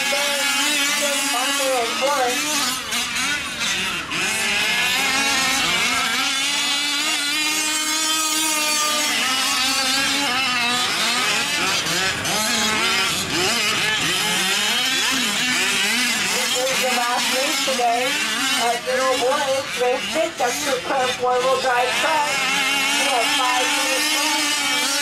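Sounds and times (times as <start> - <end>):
small two-stroke engines revving: 0.0 - 25.0.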